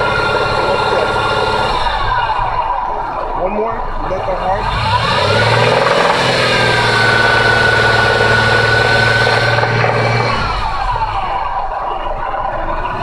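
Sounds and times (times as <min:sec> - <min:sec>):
car engine revving: 0:00.0 - 0:13.0
engine knocking: 0:00.0 - 0:13.0.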